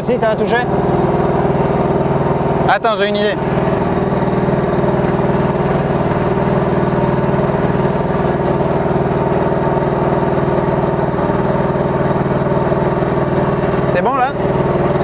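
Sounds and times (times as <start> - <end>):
excavator engine running: 0.0 - 15.0
hydraulic boom working: 0.0 - 15.0.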